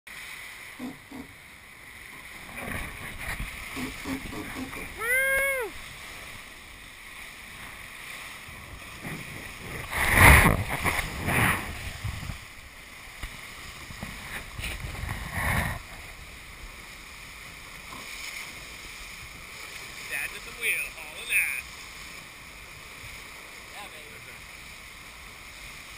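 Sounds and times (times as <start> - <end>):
water rushing past boat: 0.1 - 25.9
water surges: 0.1 - 25.9
wind: 0.1 - 25.9.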